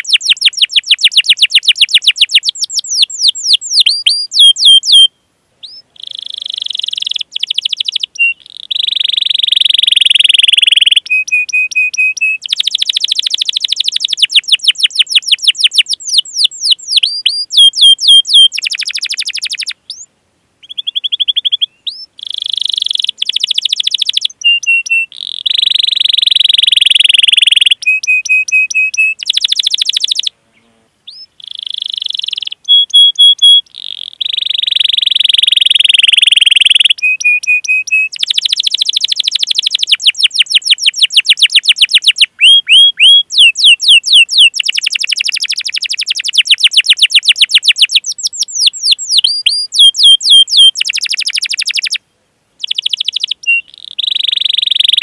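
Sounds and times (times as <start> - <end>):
canary singing: 0.0 - 52.0, 52.6 - 55.0.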